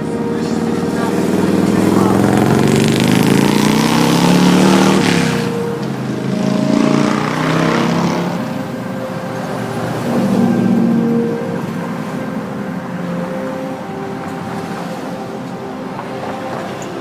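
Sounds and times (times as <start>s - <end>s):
vehicles passing close by: 0.0s - 17.0s.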